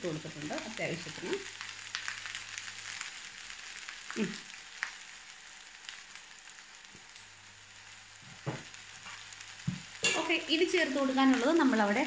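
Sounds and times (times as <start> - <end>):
fried rice sizzling in a pan: 0.0 - 12.0.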